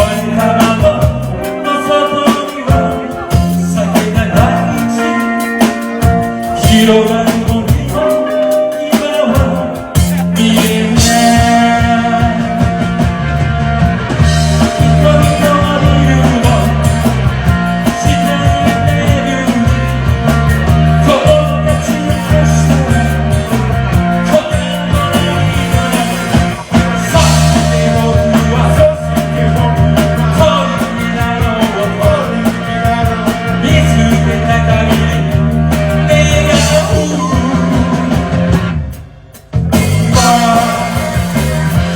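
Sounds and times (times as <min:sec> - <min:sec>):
pulsing bass line: 0:00.0 - 0:08.3, 0:09.3 - 0:41.9
rock band playing: 0:00.0 - 0:41.9.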